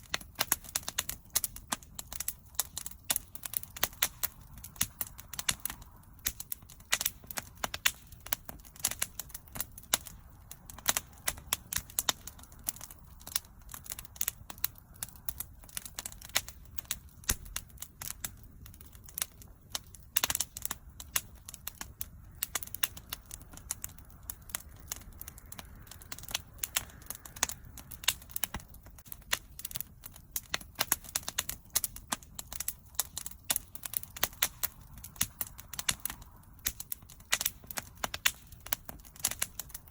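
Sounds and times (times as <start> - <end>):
bonfire crackling and popping: 0.0 - 39.9
low rush of flame: 0.0 - 39.9.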